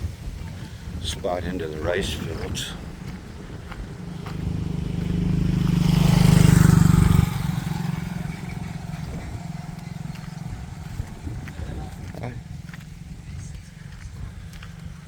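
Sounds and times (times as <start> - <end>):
vehicle passing by: 1.6 - 15.0.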